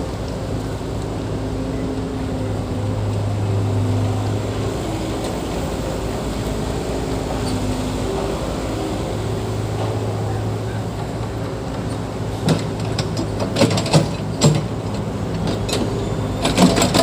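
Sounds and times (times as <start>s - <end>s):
heavy machinery diesel engine running: 0.0s - 17.0s.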